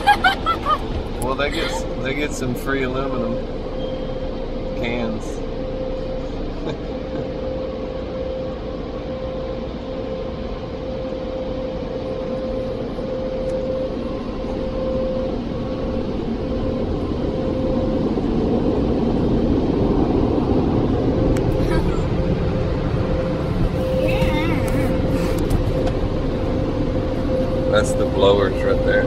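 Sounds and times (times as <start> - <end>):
constant machine hum: 0.0 - 29.0.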